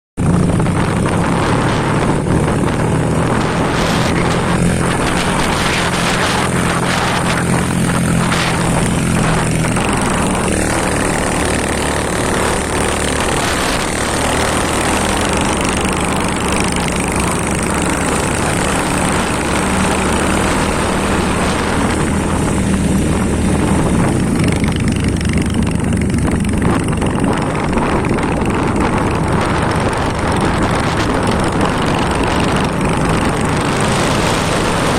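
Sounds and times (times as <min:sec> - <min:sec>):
rushing wind and road noise: 0:00.2 - 0:34.9
vehicle engine running: 0:00.2 - 0:34.9.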